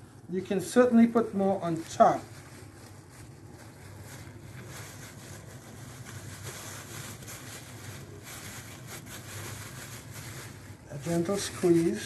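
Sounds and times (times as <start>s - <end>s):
room noise hum and hiss: 0.0s - 12.0s.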